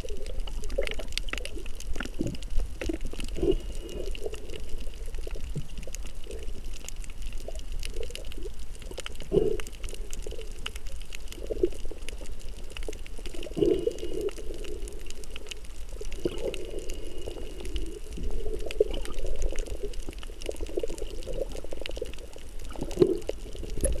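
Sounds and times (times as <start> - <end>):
crackling clicks: 0.0 - 24.0
underwater bubbling and gurgling: 0.0 - 24.0.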